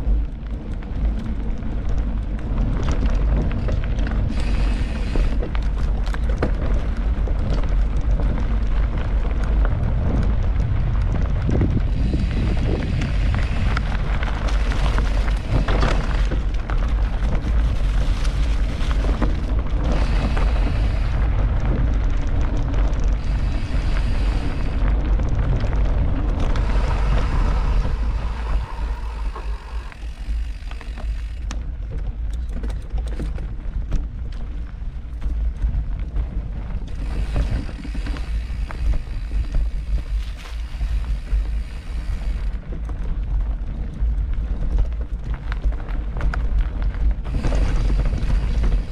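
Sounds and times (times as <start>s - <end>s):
bike rattles: 0.0s - 48.9s
bike tyre rumble: 0.0s - 48.9s
wind buffeting microphone: 0.0s - 48.9s.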